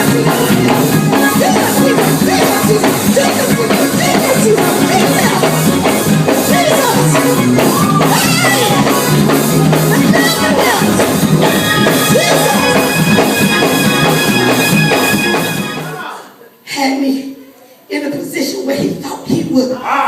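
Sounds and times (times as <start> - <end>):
voices singing: 0.0 - 16.3
church band music: 0.0 - 16.4.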